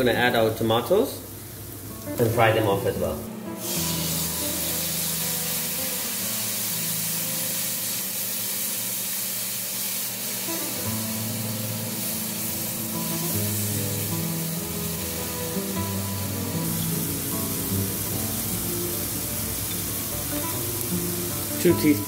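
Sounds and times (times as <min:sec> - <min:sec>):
tomato sizzling in a pan: 0:00.0 - 0:22.0
background music with held notes: 0:01.7 - 0:08.5, 0:10.3 - 0:22.0.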